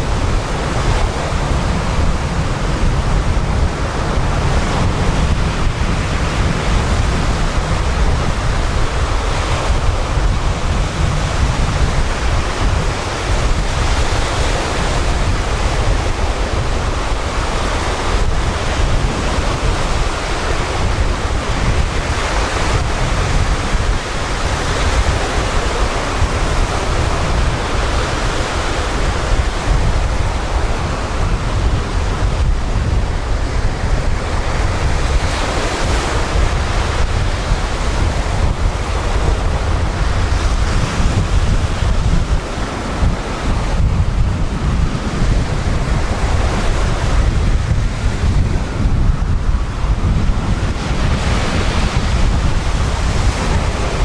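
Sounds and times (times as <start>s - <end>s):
surf breaking on beach: 0.0s - 54.0s
wind rumbling on microphone: 0.0s - 54.0s.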